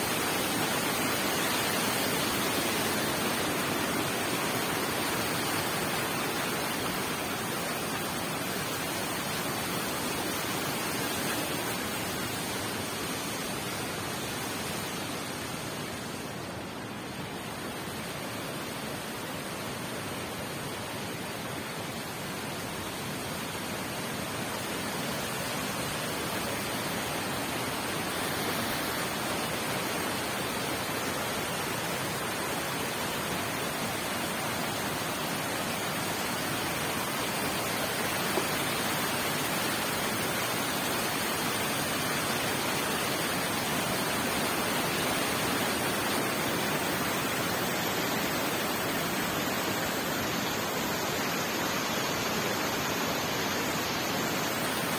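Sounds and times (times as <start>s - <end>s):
floodwater rushing over rocks: 0.0s - 54.9s.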